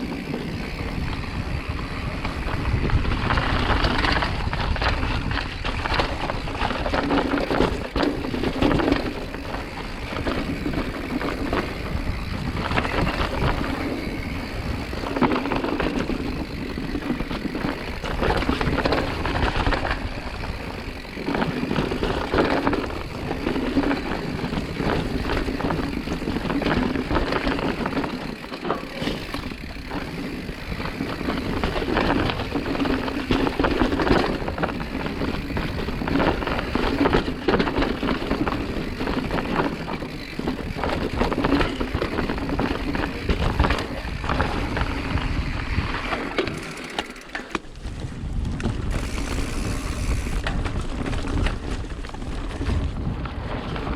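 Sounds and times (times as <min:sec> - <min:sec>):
mountain bike rattling: 0:00.0 - 0:53.9.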